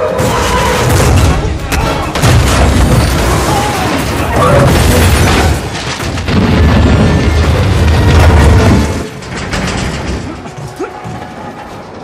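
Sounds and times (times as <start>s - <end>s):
deep booms and crashing impacts: 0.2s - 10.2s.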